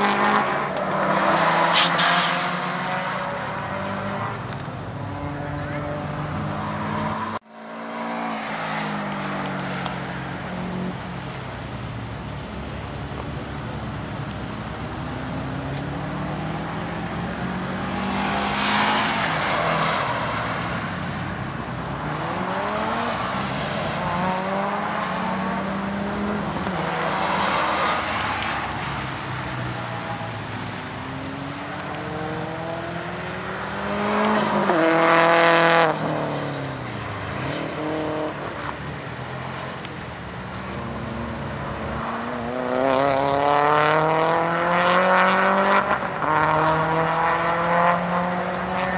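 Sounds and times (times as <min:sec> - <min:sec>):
race cars passing at full throttle: 0:00.0 - 0:48.9.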